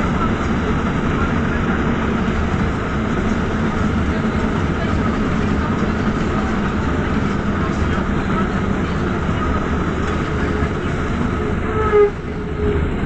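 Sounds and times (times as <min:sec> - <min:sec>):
bus engine hum: 0:00.0 - 0:13.0.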